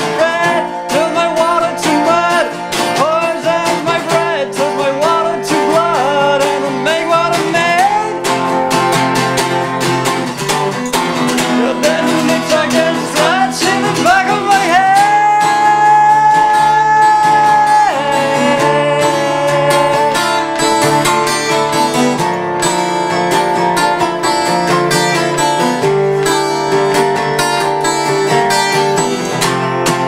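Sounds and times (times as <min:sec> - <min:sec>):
acoustic guitar: 0:00.0 - 0:30.0
resonator guitar: 0:00.0 - 0:30.0.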